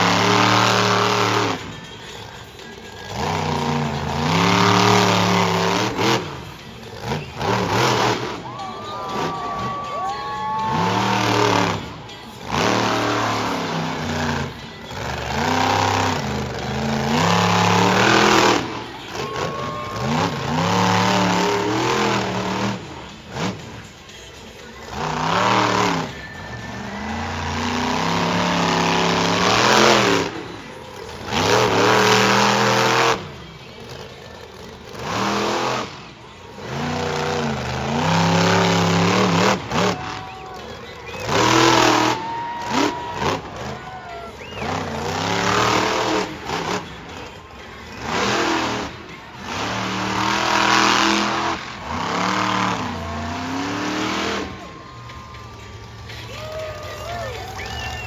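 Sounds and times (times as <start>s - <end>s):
monster truck engine revving: 0.0s - 58.0s.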